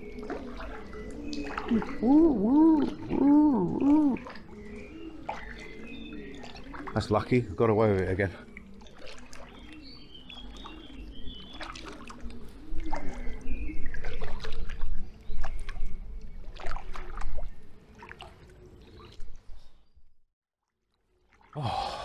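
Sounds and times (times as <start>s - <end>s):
paddle strokes splashing and dripping: 0.0s - 19.6s, 20.6s - 21.6s.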